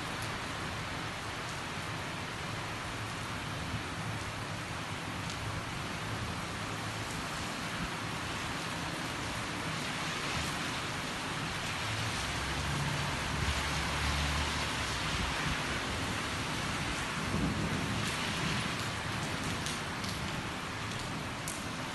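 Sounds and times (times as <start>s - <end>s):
rain falling: 0.0s - 21.9s.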